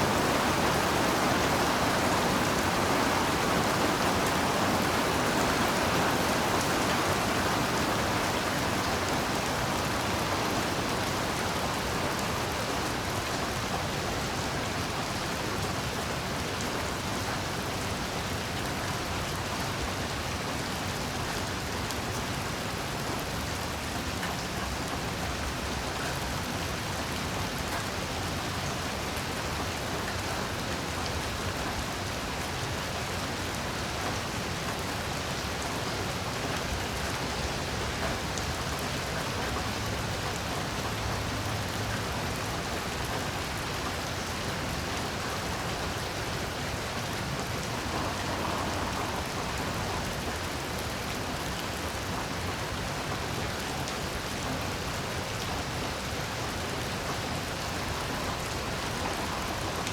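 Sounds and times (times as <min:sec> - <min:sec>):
heavy rain on surfaces: 0:00.0 - 0:59.9.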